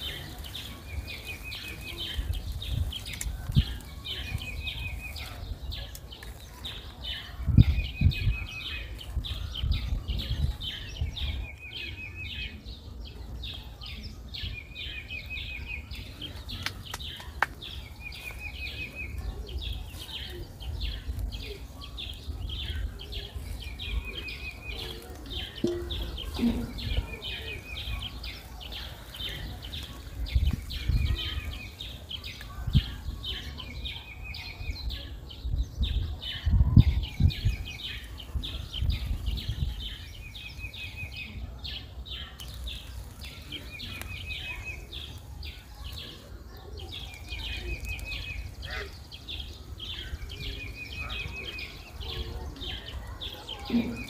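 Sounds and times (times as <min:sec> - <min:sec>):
high bird chirping: 0:00.0 - 0:54.0.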